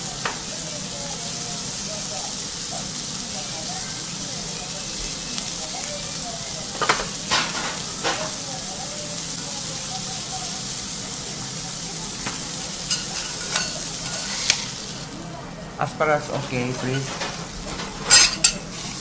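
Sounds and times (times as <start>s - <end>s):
vegetables sizzling on a griddle: 0.0s - 19.0s.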